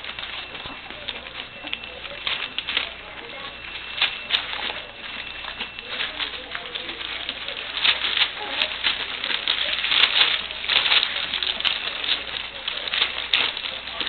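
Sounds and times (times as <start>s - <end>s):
puppies eating smacking: 0.0s - 14.0s.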